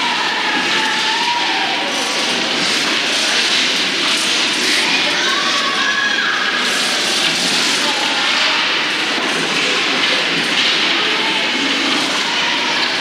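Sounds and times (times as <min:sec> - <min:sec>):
faint voices: 0:00.0 - 0:13.0
ice arena background noise: 0:00.0 - 0:13.0.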